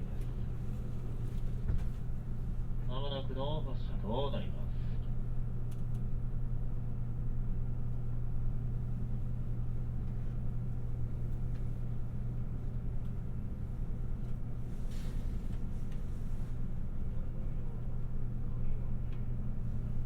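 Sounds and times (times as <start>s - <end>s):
train equipment humming: 0.0s - 20.0s.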